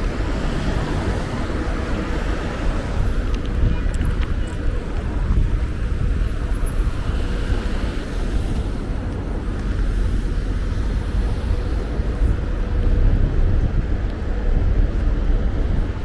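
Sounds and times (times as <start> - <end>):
low rumble of traffic: 0.0 - 16.0
wind on microphone: 0.0 - 16.0.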